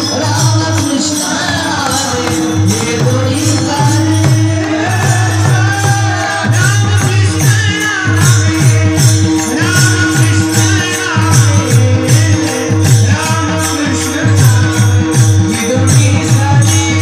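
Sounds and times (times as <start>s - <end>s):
drum beat: 0.0s - 17.0s
jingling percussion: 0.0s - 17.0s
person singing: 0.0s - 17.0s.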